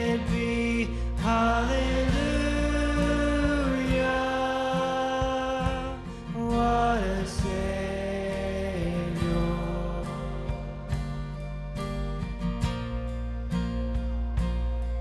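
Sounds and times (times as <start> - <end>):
low accompaniment: 0.0 - 15.0.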